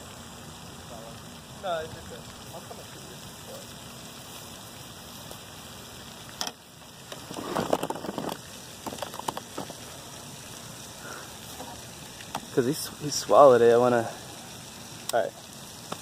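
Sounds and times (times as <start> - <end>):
hiss like falling water: 0.0 - 16.0.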